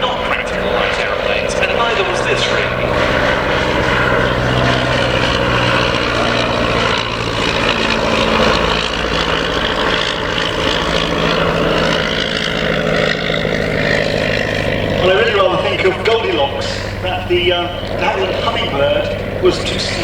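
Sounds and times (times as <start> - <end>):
biplane engine and propeller: 0.0 - 20.0.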